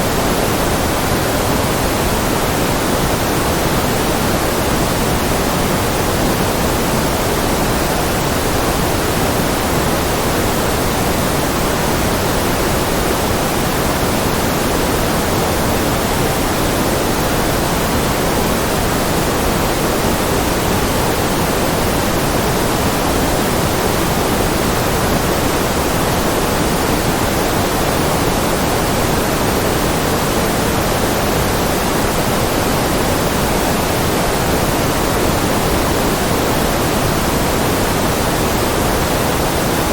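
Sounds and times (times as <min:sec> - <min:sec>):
white noise: 0:00.0 - 0:39.9.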